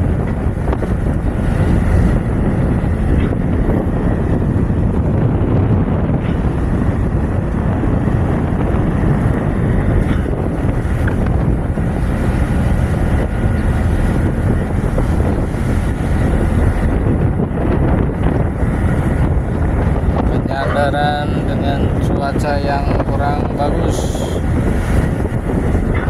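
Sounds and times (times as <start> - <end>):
boat engines running: 0.0 - 26.0
sea rushing past hull: 0.0 - 26.0
wind buffeting microphone: 0.0 - 26.0.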